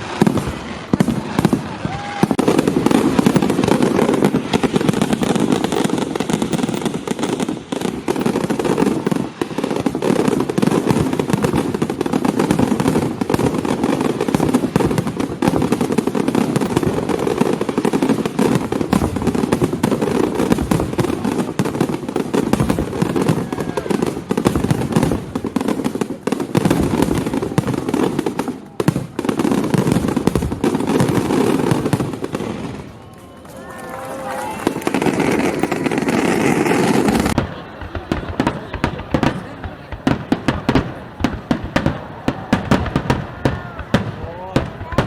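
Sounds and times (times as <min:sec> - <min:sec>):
fireworks bangs: 0:00.0 - 0:45.0
fireworks crackling pops: 0:00.0 - 0:45.0.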